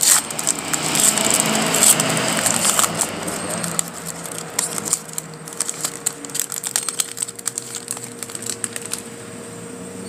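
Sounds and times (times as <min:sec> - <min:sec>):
cards clicking and rustling: 0:00.0 - 0:09.1
foil wrapper crinkling: 0:00.0 - 0:09.1.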